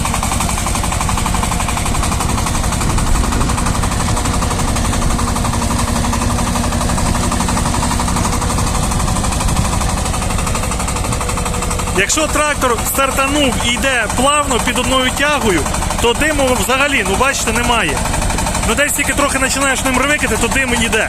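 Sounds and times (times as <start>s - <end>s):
diesel tractor engine knocking: 0.0s - 21.0s
rotary tiller in soil: 0.0s - 21.0s.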